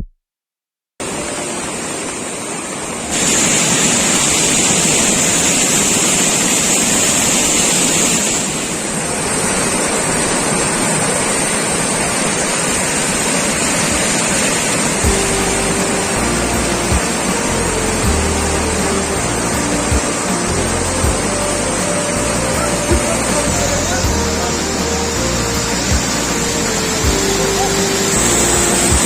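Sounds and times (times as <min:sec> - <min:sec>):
floodwater rushing: 0:01.0 - 0:29.0.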